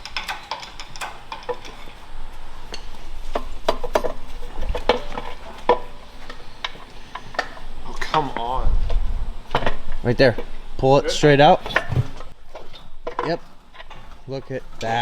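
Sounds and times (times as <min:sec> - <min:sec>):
metallic clinks and clanks: 0:00.0 - 0:08.6, 0:09.5 - 0:15.0.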